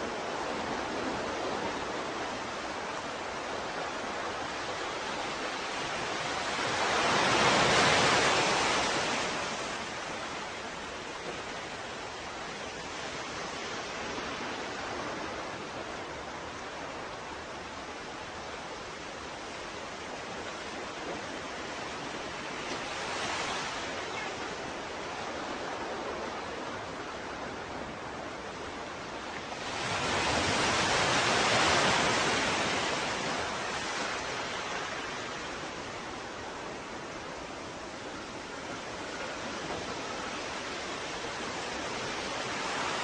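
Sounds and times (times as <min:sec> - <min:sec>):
waves breaking: 0:00.0 - 0:43.0.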